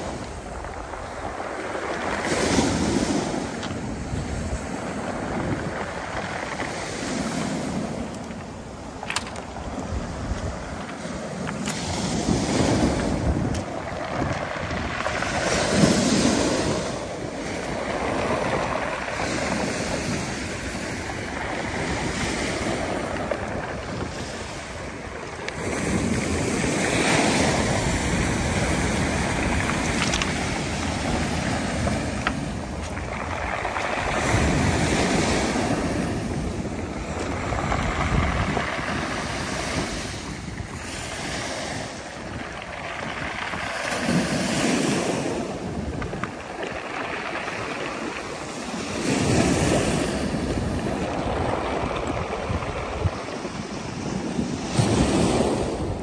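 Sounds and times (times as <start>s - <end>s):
waves breaking on pebble beach: 0.0s - 56.0s.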